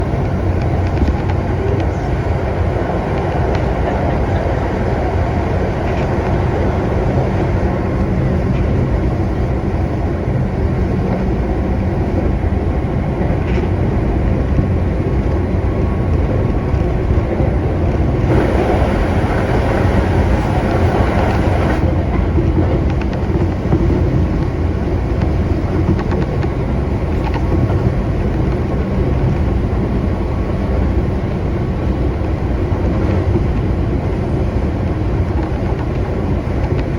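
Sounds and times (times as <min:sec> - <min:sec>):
train wheels and motors rumbling: 0:00.0 - 0:36.9.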